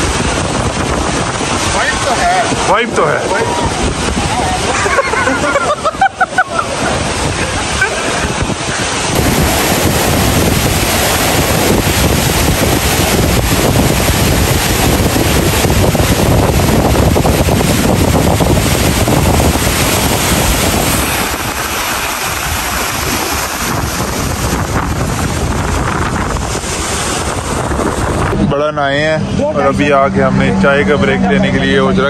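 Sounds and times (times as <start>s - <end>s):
river water pouring over cascade: 0.0s - 31.3s
wind buffeting the microphone: 0.0s - 32.0s.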